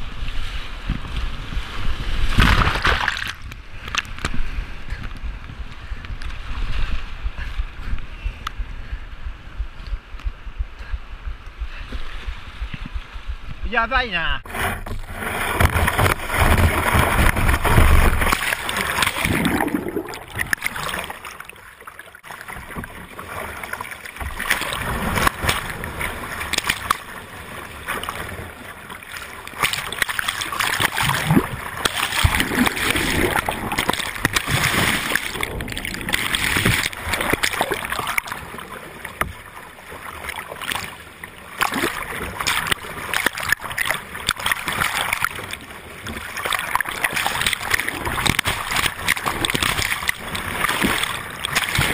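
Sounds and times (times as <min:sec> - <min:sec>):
waves splashing over boat: 0:00.0 - 0:09.8, 0:10.8 - 0:51.9.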